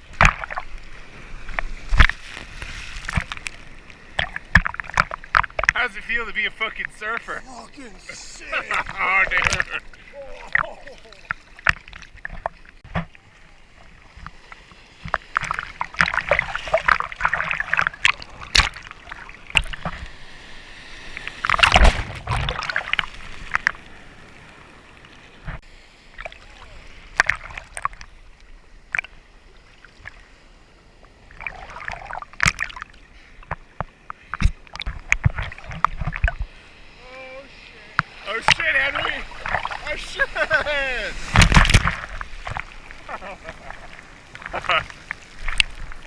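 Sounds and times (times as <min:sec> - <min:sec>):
water sloshing and splashing: 0:00.0 - 0:36.7, 0:37.5 - 0:46.0.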